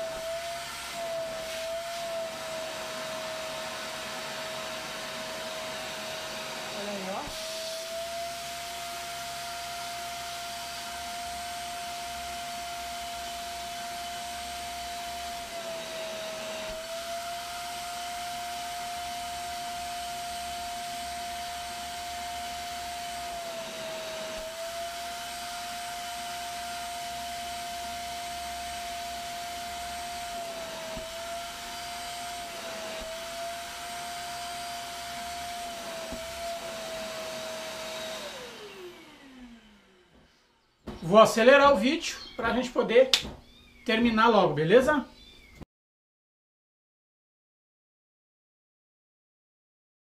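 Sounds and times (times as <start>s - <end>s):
vacuum cleaner motor whining: 0.0s - 44.5s.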